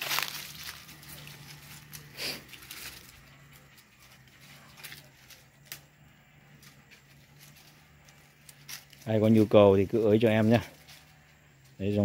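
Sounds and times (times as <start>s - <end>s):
dogs rustling in dry leaves: 0.0s - 12.0s.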